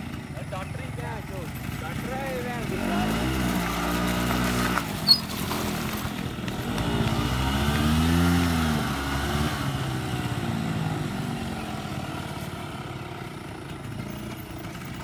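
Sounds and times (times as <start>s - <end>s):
scooter engine revving: 0.0s - 15.0s.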